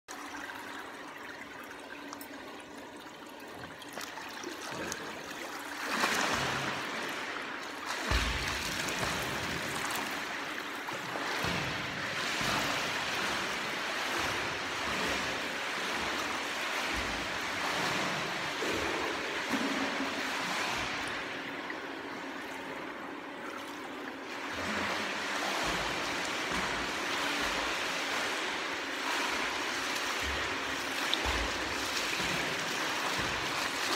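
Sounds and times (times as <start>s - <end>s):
water splashing in a pool: 0.1s - 33.9s.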